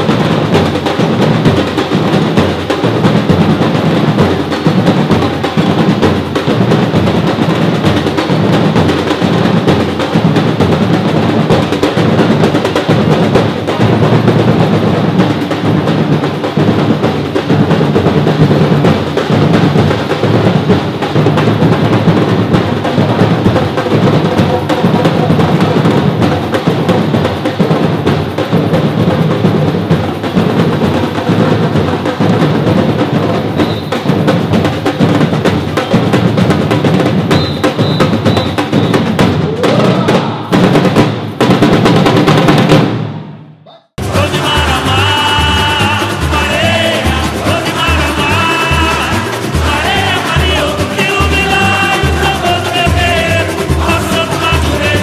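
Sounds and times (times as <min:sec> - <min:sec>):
deep drums: 0:00.0 - 0:55.0
drum group playing rhythm: 0:00.0 - 0:55.0.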